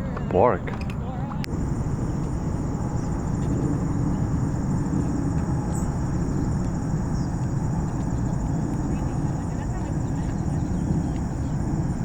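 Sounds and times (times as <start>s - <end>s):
continuous low rumble: 0.0s - 12.0s
pulsing insect trill: 1.5s - 12.0s.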